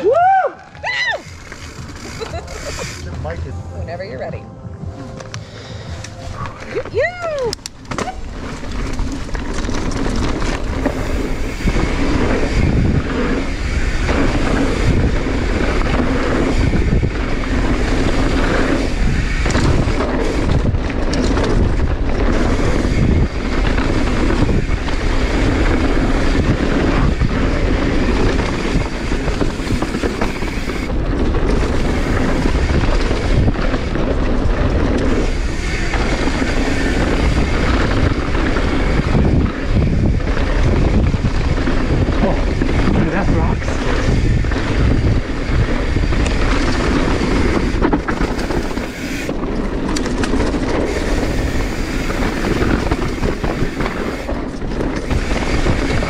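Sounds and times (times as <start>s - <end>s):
tyre noise: 0.0s - 3.5s, 6.0s - 56.0s
wind rushing over microphone: 0.0s - 56.0s
bike clattering over rough ground: 0.7s - 3.4s, 6.4s - 56.0s.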